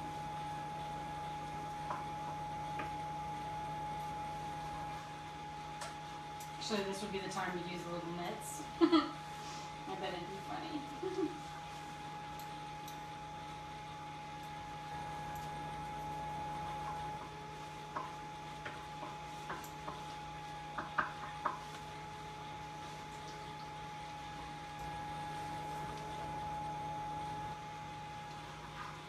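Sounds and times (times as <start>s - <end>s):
blower fan humming: 0.0s - 29.0s.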